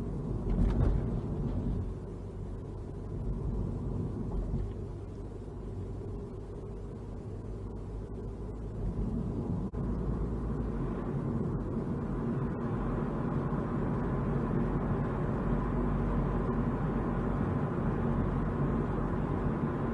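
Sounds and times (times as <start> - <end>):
road and engine rumble: 0.0 - 19.9.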